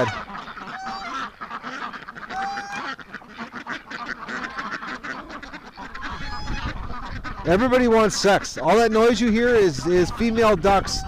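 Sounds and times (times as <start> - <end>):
ducks and geese quacking: 0.0 - 11.0.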